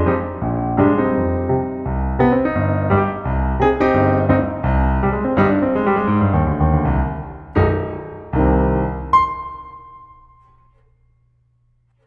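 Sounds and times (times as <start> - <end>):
piano music: 0.0 - 11.8.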